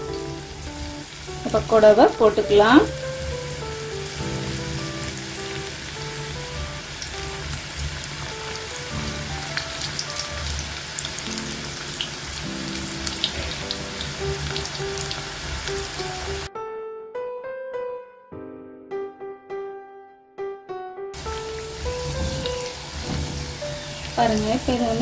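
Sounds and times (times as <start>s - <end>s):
deep-frying sizzle and pops: 0.0s - 16.5s, 21.2s - 25.0s
background music: 0.0s - 25.0s.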